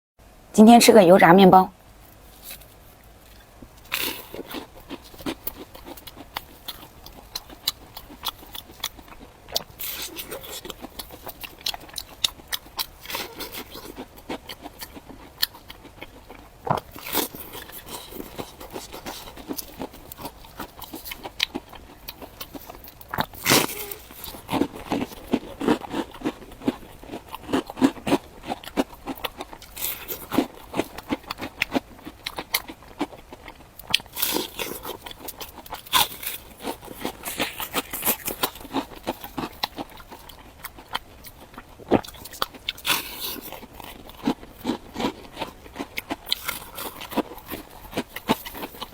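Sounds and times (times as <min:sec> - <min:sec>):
crunchy chewing of fried bread: 0:01.9 - 0:48.9.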